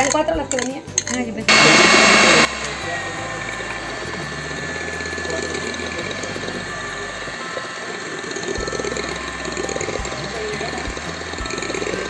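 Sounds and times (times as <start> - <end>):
electric hand mixer whining: 1.5 - 12.0.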